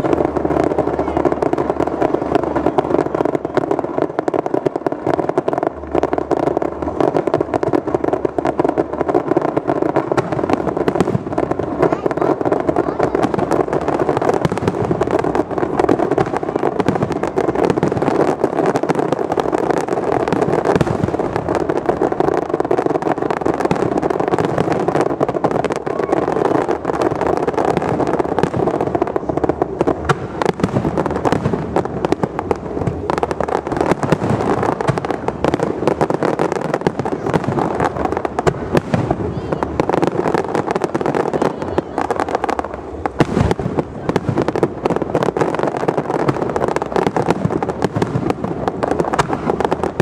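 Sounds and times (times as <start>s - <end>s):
fireworks bursts and crackling pops: 0.0s - 50.0s.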